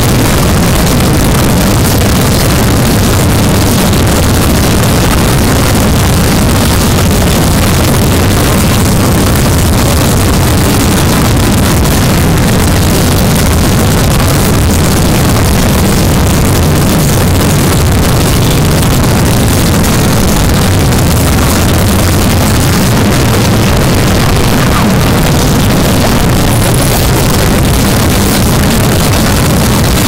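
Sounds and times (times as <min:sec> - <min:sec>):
harsh noise with low rumble: 0:00.0 - 0:30.0.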